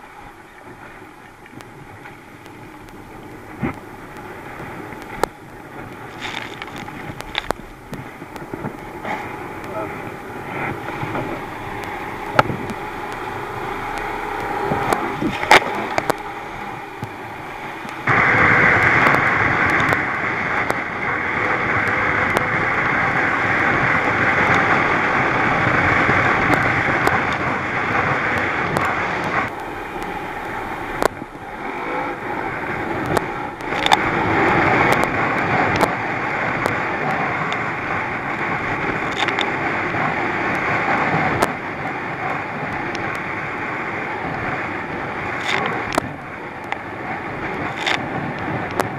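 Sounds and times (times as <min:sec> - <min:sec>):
boat hull slamming waves: 0:00.0 - 0:48.9
outboard engine: 0:00.0 - 0:48.9
wind and spray on microphone: 0:00.0 - 0:48.9.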